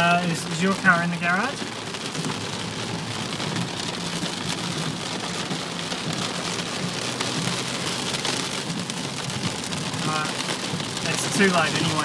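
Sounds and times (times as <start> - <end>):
heavy rain on a car: 0.0 - 12.0.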